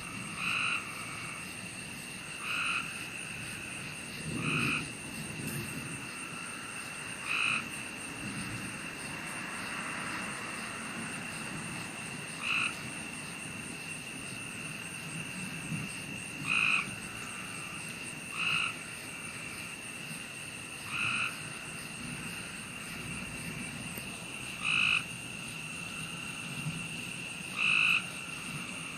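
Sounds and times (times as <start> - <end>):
frog croaking: 0.0 - 28.9
steady background hiss: 0.0 - 28.9.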